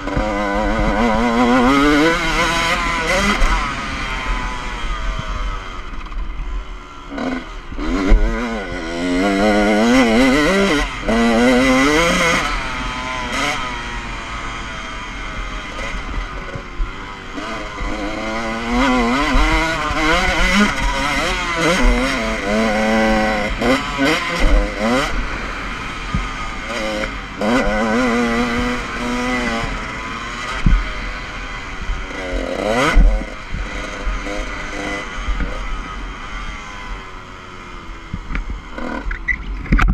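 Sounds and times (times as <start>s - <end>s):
dirt bike engine revving: 0.0s - 39.5s.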